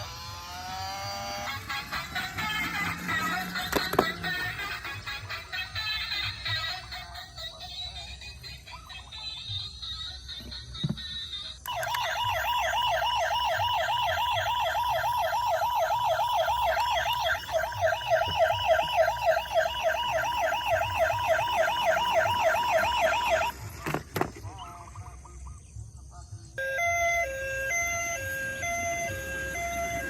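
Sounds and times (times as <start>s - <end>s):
toy siren yelping: 0.0s - 23.7s, 26.6s - 30.0s.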